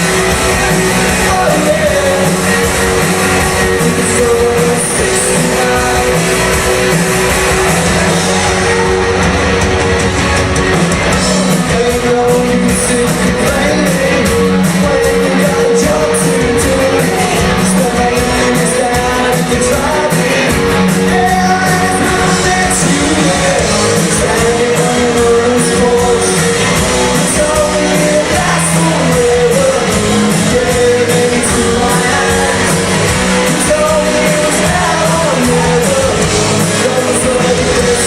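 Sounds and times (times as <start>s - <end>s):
person singing: 0.0s - 9.6s, 11.1s - 38.0s
live rock band playing: 0.0s - 38.0s.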